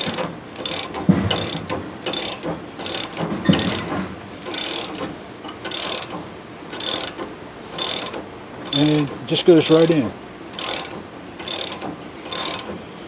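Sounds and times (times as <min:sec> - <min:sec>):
ratchet wrench clicking: 0:00.0 - 0:03.9, 0:04.5 - 0:10.0, 0:10.6 - 0:12.8.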